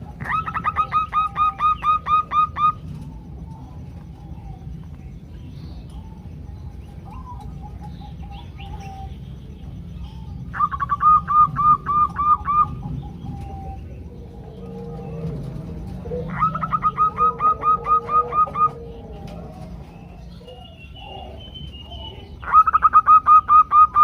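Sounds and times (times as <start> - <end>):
doves calling: 0.0 - 24.0
low steady hum: 0.0 - 24.0.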